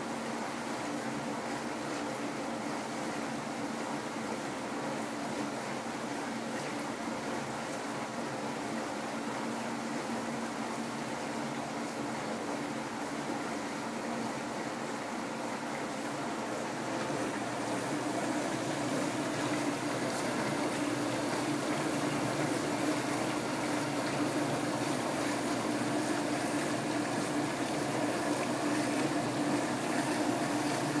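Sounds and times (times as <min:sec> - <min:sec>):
pump motor hum: 0:00.0 - 0:31.0.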